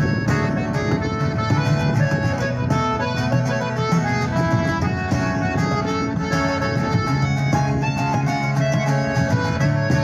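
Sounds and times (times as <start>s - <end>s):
piano accordion: 0.0s - 10.0s
strummed acoustic guitar: 0.0s - 10.0s.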